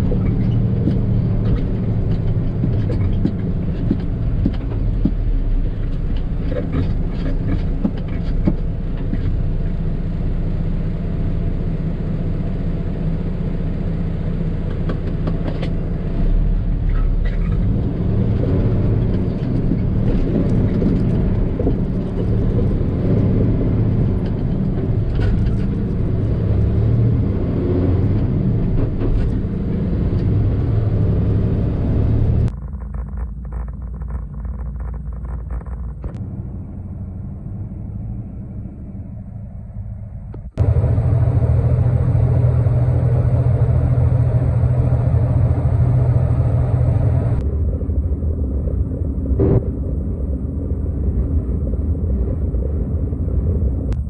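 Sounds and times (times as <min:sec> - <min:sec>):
road rumble: 0:00.0 - 0:54.0
truck engine drone: 0:00.0 - 0:54.0.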